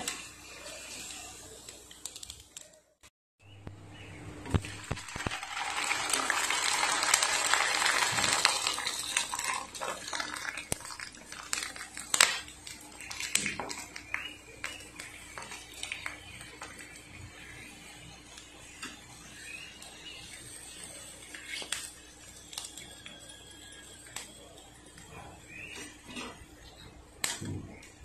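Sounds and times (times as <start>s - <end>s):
oil sizzling while deep-frying: 0.0s - 2.4s, 4.4s - 27.4s.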